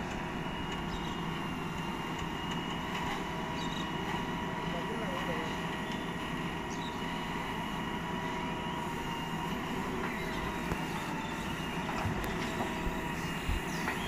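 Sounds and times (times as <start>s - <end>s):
diesel engine running under load: 0.0s - 14.0s
hydraulic whine: 0.0s - 14.0s.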